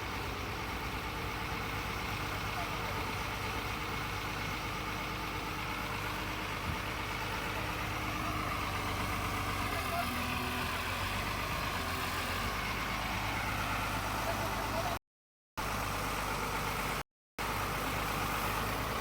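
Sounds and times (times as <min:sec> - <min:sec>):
excavator diesel engine running: 0:00.0 - 0:15.0, 0:15.6 - 0:19.0.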